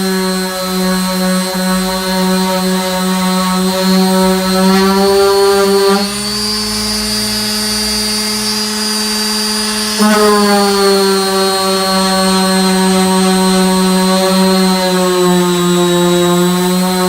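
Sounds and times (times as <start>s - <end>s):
electric sander whining: 0.0s - 17.0s.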